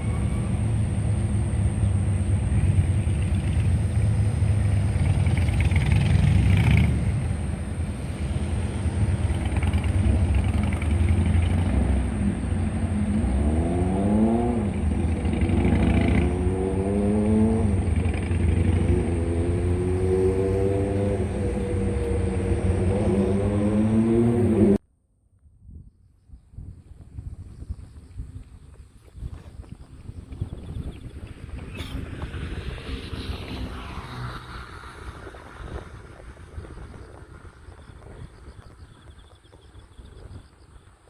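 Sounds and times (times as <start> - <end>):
road traffic rumble: 0.0 - 24.8, 26.7 - 41.0
vehicle engine accelerating: 0.0 - 24.8, 29.3 - 40.1.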